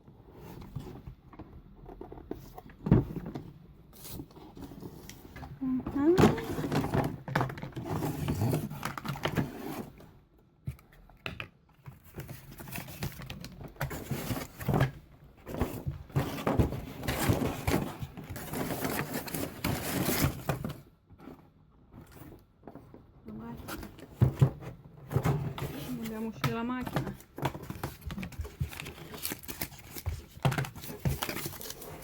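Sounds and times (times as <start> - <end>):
cardboard and plastic crinkling: 0.4 - 10.0, 10.7 - 32.0.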